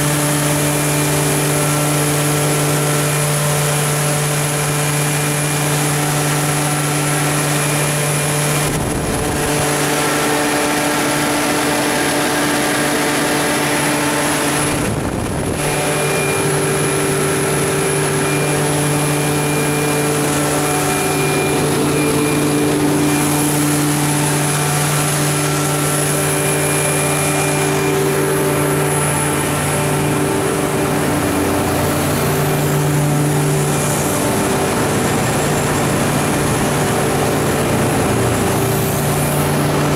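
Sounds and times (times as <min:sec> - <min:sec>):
generator engine running: 0:00.0 - 0:39.9.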